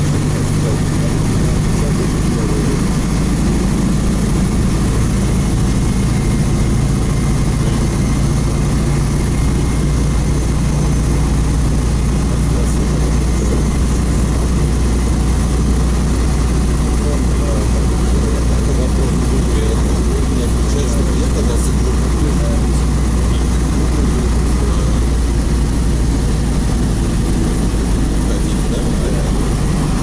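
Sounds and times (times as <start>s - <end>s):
bus engine humming: 0.0s - 30.0s
road and tyre noise: 0.0s - 30.0s.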